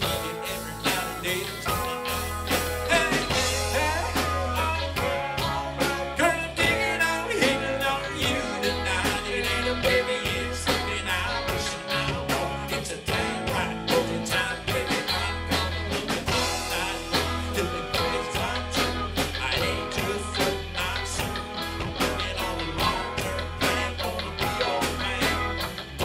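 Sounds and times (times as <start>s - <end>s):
bass and drums: 0.0s - 26.0s
electric guitars: 0.0s - 26.0s.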